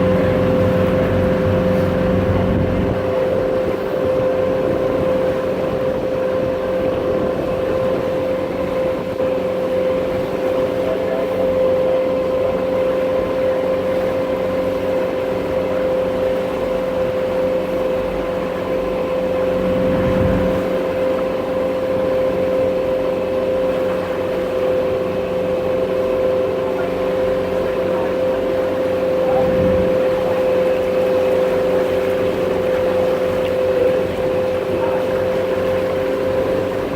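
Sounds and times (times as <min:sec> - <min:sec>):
boat engine drone with whine: 0:00.0 - 0:36.9.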